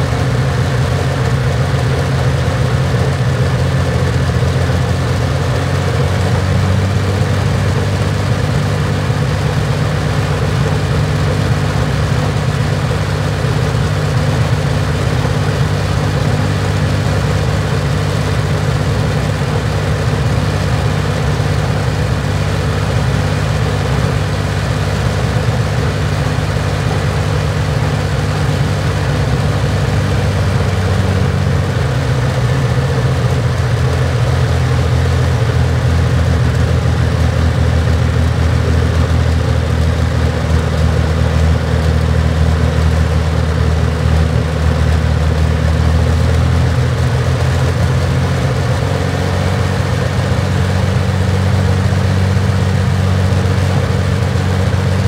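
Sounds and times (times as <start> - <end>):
aero engine running: 0.0 - 55.0.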